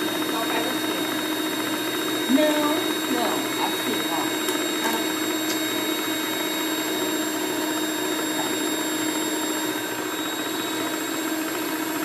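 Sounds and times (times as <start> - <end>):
electric mixer humming: 0.0 - 12.0.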